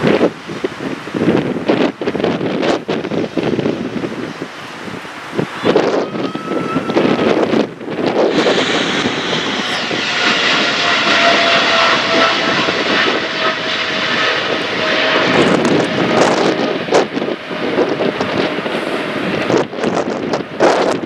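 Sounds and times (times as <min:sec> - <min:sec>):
jet engines passing with whine: 0:00.0 - 0:21.0.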